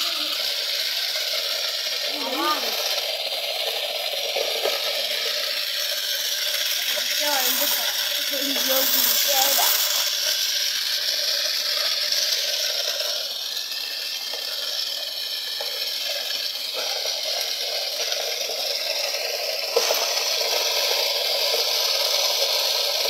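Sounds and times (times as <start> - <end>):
machine wheel whirring: 0.0 - 23.0.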